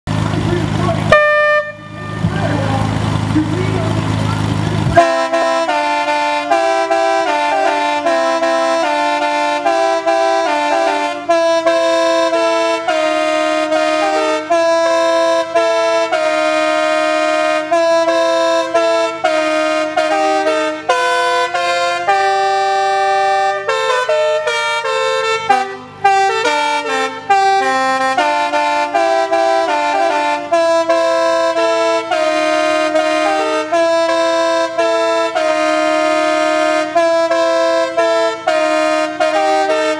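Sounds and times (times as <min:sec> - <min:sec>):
air horns playing a tune: 0:00.6 - 0:04.0, 0:04.8 - 0:39.9.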